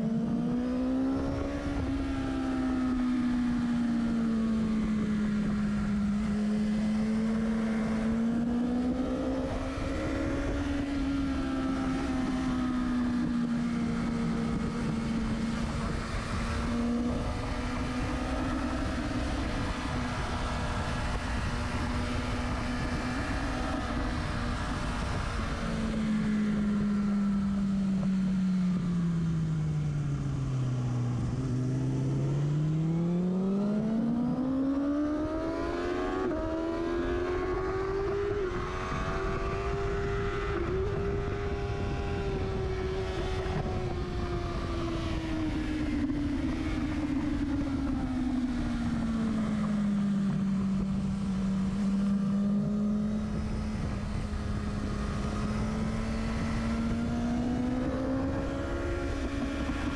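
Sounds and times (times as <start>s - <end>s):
wind noise: 0.0s - 28.4s, 29.2s - 59.9s
motorcycle engine revving: 0.0s - 59.9s.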